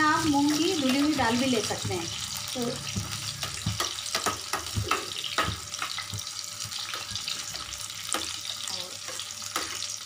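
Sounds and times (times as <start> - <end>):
tomatoes sizzling in pan: 0.0 - 10.0.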